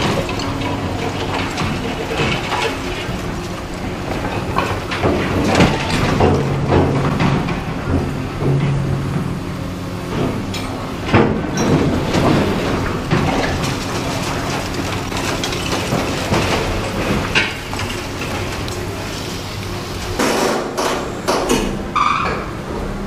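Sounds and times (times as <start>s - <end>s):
excavator shear breaking concrete: 0.0s - 9.5s, 10.1s - 19.1s, 20.0s - 23.0s
debris crunching and clattering: 0.0s - 21.0s.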